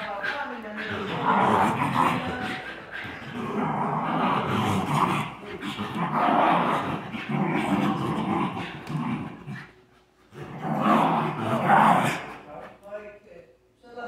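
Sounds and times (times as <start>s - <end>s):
dogs play-growling: 0.0s - 12.9s.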